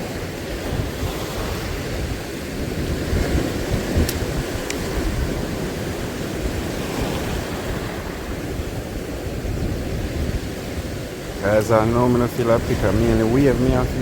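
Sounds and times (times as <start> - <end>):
sea surf washing on beach: 0.0 - 14.0
wind buffeting microphone: 0.0 - 14.0.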